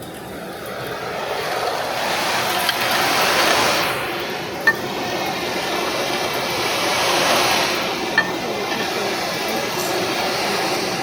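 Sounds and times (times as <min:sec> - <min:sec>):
industrial vacuum hose rushing air: 0:00.0 - 0:11.0.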